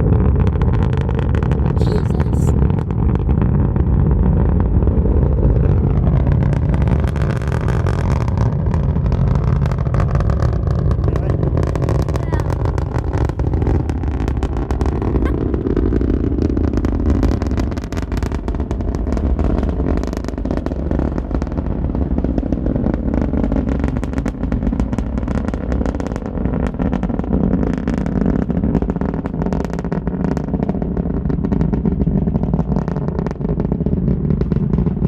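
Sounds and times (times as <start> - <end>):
rocket exhaust rumble with crackling: 0.0 - 35.0.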